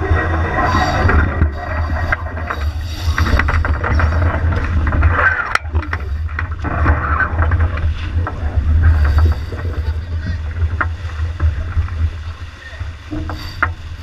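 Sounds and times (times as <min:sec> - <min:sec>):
water rushing along hull: 0:00.0 - 0:14.0
wind buffeting microphone: 0:00.0 - 0:14.0
deck gear clicks and rattles: 0:00.6 - 0:12.4.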